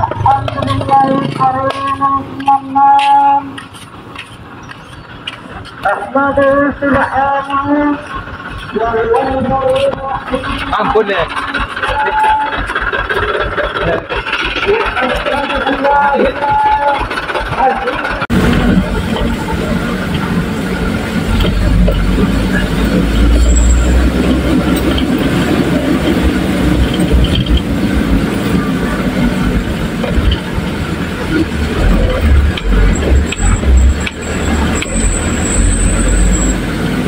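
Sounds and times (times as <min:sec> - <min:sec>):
truck engine rumble: 0:00.0 - 0:37.0
truck knocking and rattling: 0:00.0 - 0:37.0.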